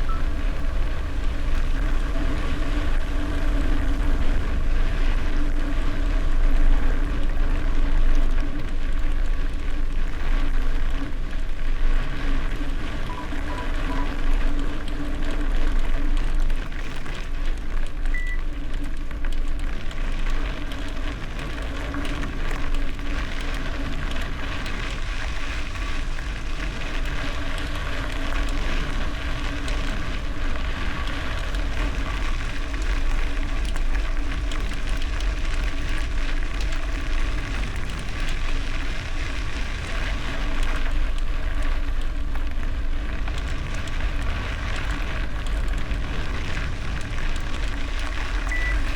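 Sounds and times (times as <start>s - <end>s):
bicycle tyres on gravel: 0.0s - 48.9s
wind rumbling on microphone: 0.0s - 48.9s.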